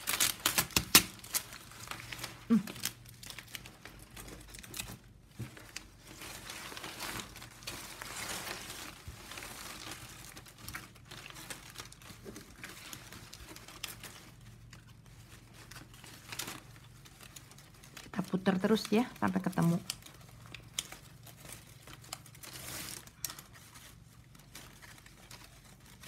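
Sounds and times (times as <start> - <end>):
plastic strapping strips rustling: 0.0 - 26.0.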